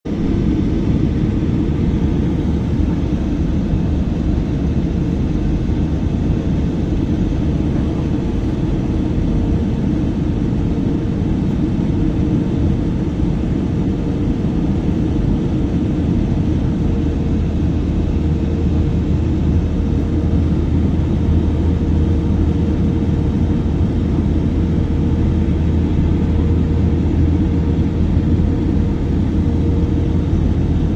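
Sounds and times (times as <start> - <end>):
jet engine and airflow rush: 0.0 - 30.9
low drone: 0.1 - 30.9.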